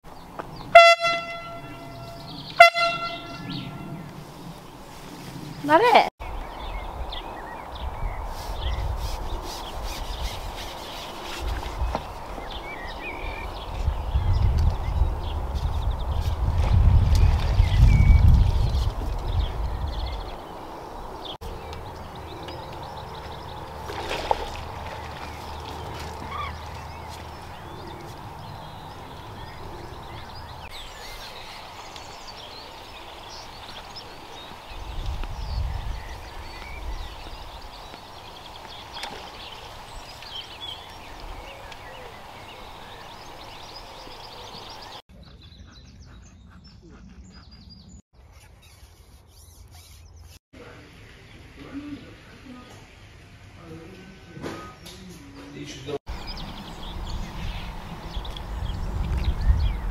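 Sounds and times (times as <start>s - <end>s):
small birds chirping: 0.1s - 50.4s, 53.6s - 59.9s.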